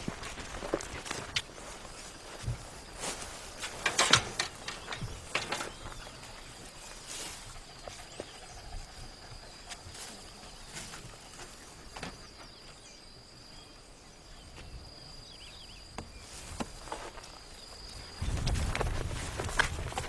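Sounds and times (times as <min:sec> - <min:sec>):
grass and brush rustling: 0:00.0 - 0:20.0.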